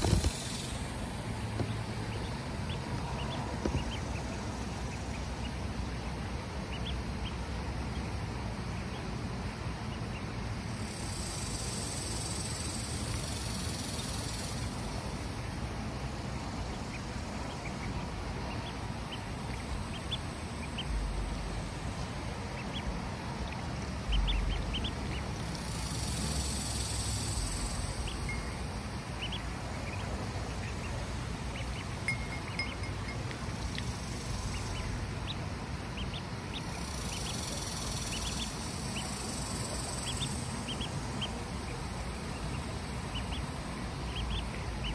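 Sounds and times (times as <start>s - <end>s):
ducklings peeping: 0.0s - 44.9s
high buzzing hiss: 0.0s - 44.9s.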